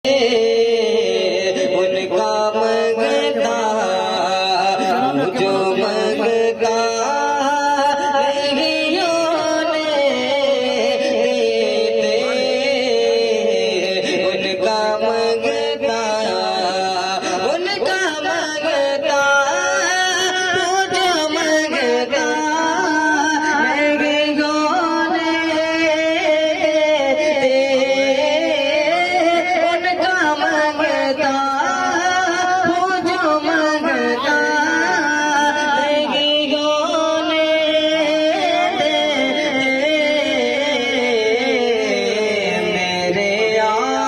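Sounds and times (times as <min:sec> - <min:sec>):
person singing devotional poem: 0:00.0 - 0:44.0.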